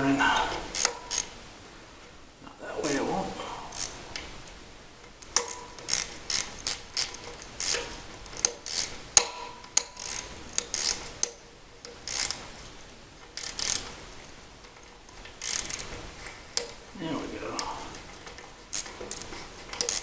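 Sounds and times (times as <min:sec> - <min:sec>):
ratcheting clicks and clanks: 0:00.7 - 0:01.3, 0:03.7 - 0:20.0.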